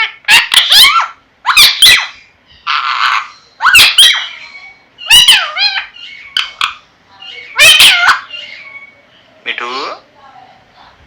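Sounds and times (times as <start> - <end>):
parrot squawking: 0.0 - 10.0.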